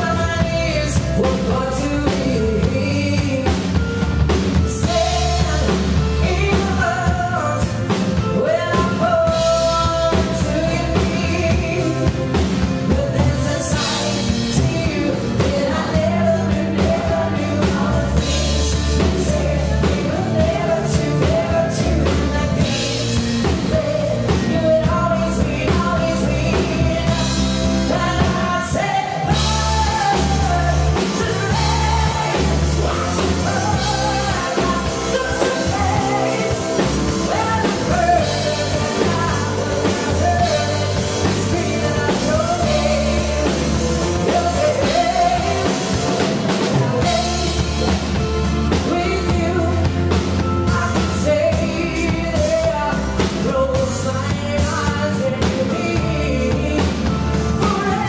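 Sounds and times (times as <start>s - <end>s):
bass guitar: 0.0s - 58.0s
drums: 0.0s - 58.0s
woman singing: 0.0s - 58.0s.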